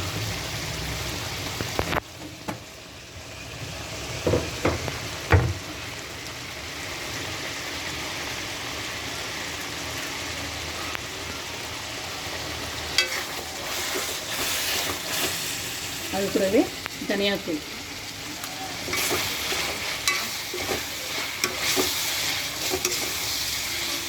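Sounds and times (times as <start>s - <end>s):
liver sizzling in oil: 0.0s - 24.0s.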